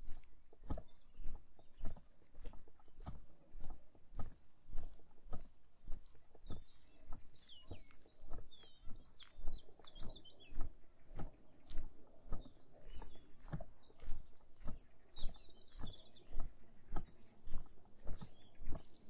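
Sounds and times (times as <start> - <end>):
small bird chirping: 0.0 - 19.0
walking footsteps: 0.0 - 19.0.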